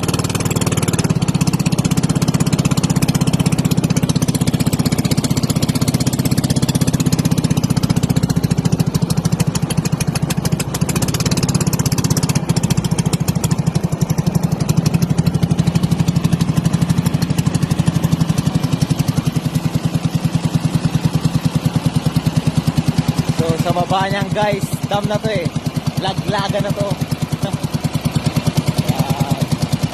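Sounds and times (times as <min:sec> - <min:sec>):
small engine running: 0:00.0 - 0:29.9.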